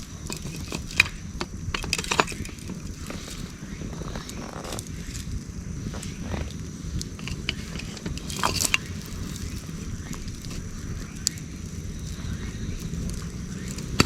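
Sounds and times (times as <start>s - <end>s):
low steady rumble: 0.0s - 14.0s
wood fire crackling: 0.0s - 14.0s.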